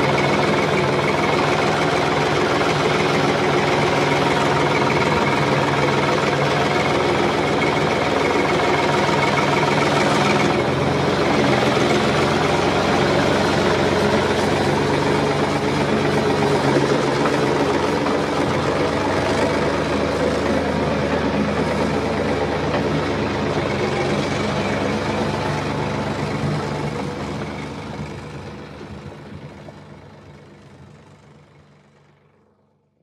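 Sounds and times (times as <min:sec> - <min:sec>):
farm machinery engines running: 0:00.0 - 0:33.0.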